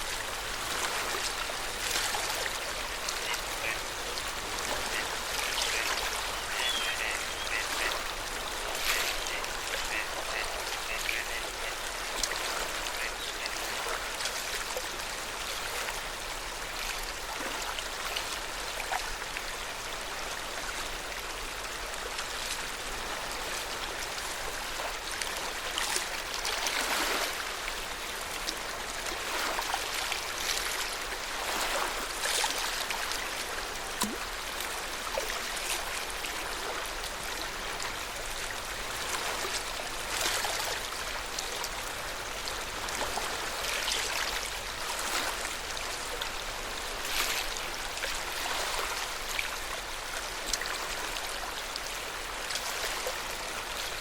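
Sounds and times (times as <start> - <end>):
water lapping at shore: 0.0 - 54.0.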